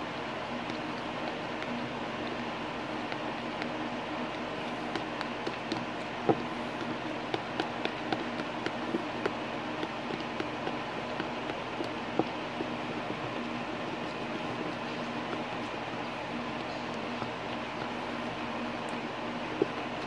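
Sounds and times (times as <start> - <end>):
steady background hum: 0.0 - 20.0
spoon stirring wet mixture: 0.4 - 20.0.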